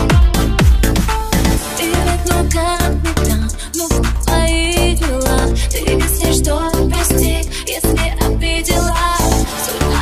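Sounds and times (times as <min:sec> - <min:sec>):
pop song with heavy bass: 0:00.0 - 0:10.0.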